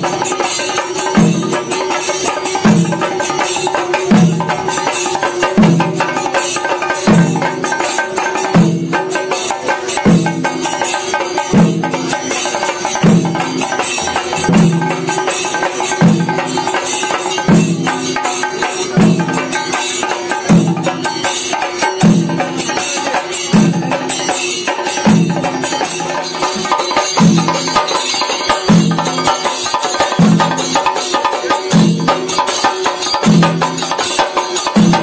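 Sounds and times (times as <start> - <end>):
drums beaten with sticks: 0.0 - 35.0.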